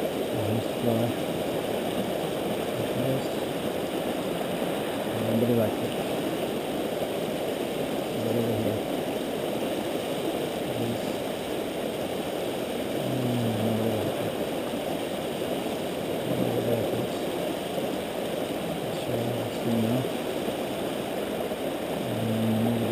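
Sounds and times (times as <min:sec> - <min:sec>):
river current rushing: 0:00.0 - 0:22.9.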